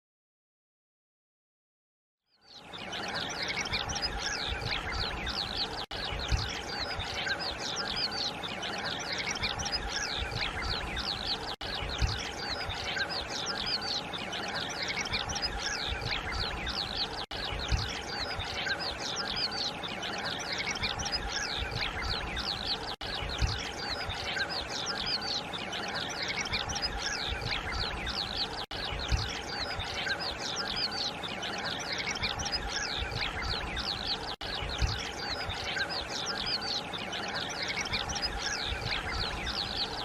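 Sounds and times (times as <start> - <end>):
birds chirping and calling: 2.5 - 40.0.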